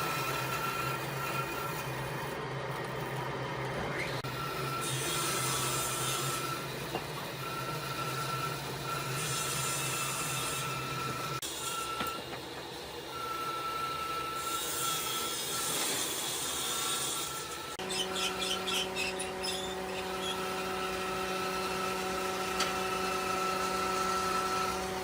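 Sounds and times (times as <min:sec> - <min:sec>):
power tool motor whine: 0:03.8 - 0:25.0.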